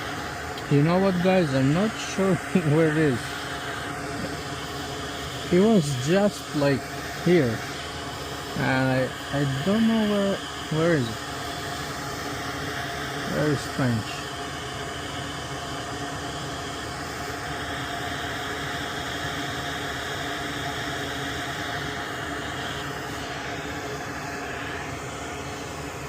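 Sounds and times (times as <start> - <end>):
fan rushing hiss: 0.0 - 26.0.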